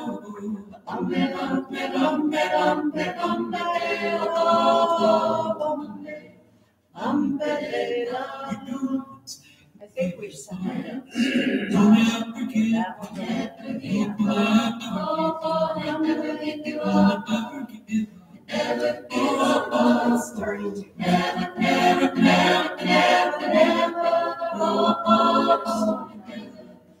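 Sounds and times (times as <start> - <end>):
choir singing a cappella: 0.0 - 9.3, 10.4 - 27.0.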